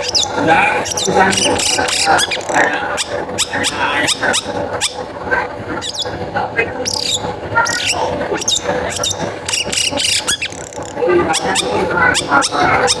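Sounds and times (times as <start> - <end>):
shrike singing sharp chirps: 0.0 - 5.0, 6.8 - 13.0.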